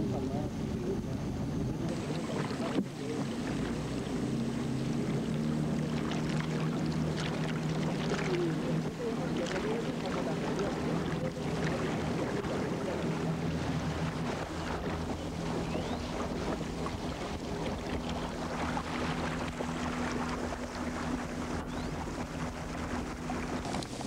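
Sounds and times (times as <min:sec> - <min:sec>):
outboard motor running: 0:00.0 - 0:24.0
water rushing along hull: 0:00.0 - 0:24.0
wind on microphone: 0:00.0 - 0:24.0.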